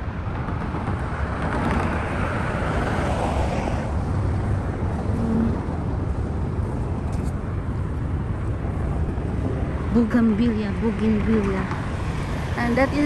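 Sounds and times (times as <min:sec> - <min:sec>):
road traffic: 0:00.0 - 0:13.0
wind on microphone: 0:00.0 - 0:13.0.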